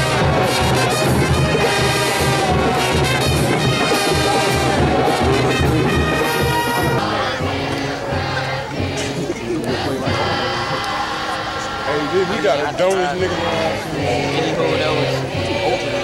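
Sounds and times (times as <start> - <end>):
marching band brass playing: 0.0 - 16.0.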